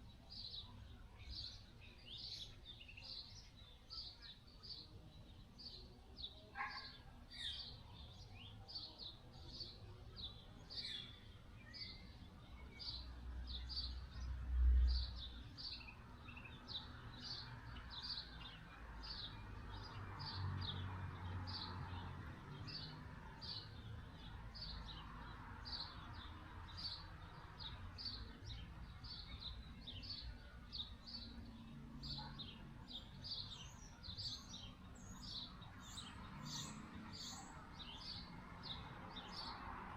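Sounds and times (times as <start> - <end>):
bird chirping: 0.0 - 39.7
outdoor background noise: 0.0 - 39.9.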